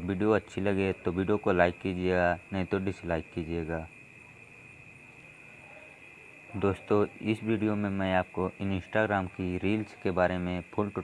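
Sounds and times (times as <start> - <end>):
faint background hiss: 0.0 - 11.0
high-pitched whine: 0.0 - 11.0.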